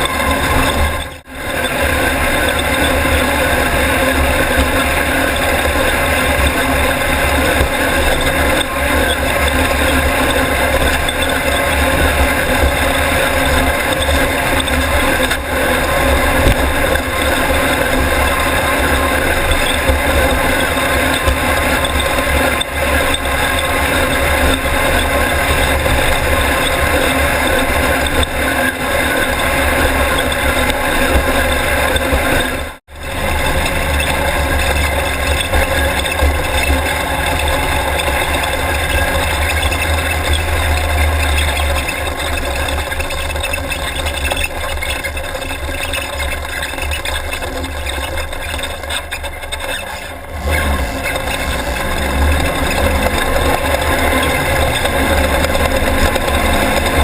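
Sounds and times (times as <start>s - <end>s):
air-cooled engine running: 0.0s - 57.0s.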